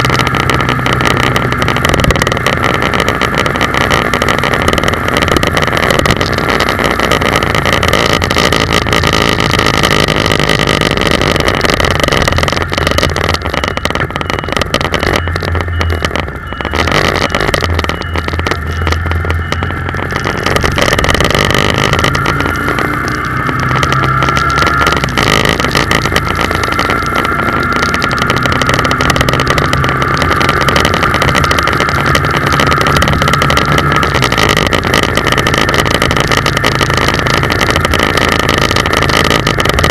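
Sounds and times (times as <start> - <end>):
car engine and road noise: 0.0 - 39.9
rising tone: 6.8 - 39.2.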